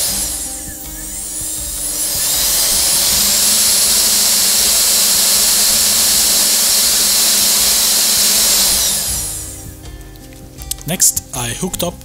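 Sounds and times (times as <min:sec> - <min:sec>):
spindle motor whine: 0:00.0 - 0:10.2.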